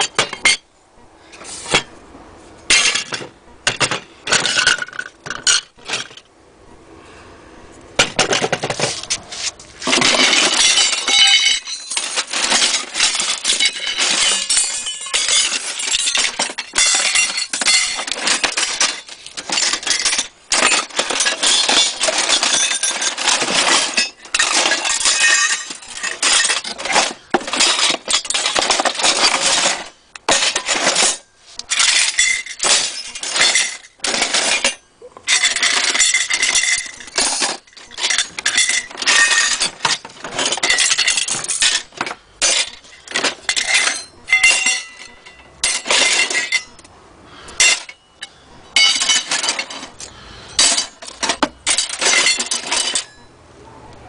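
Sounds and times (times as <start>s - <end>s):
metal and glass pieces clinking: 0.0s - 0.6s, 2.7s - 6.3s, 9.8s - 46.9s, 47.5s - 53.3s.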